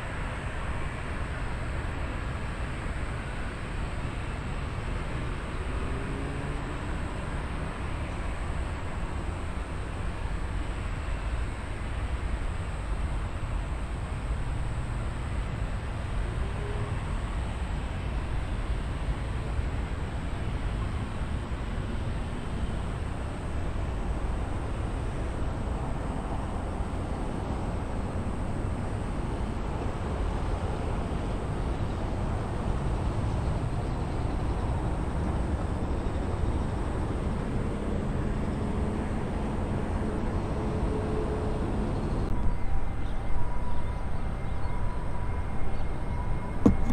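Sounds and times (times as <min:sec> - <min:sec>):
distant jet aircraft rumble: 0:00.0 - 0:46.9
faint engine tone: 0:00.0 - 0:46.9.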